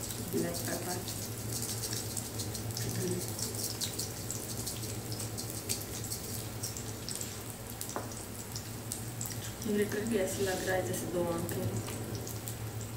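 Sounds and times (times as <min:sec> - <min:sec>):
constant low hum: 0:00.0 - 0:12.9
eggs sizzling in oil: 0:00.0 - 0:12.9.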